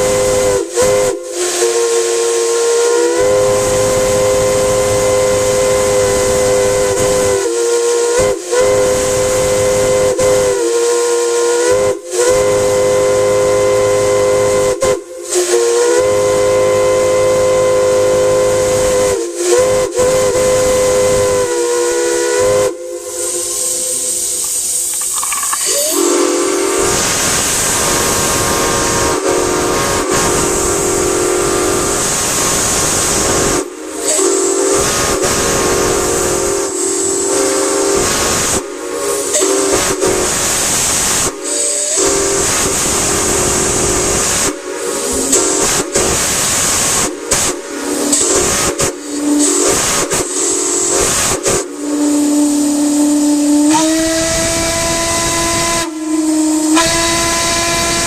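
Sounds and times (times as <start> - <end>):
steam hiss: 0.0 - 58.0
steam whistle chord: 0.0 - 58.0.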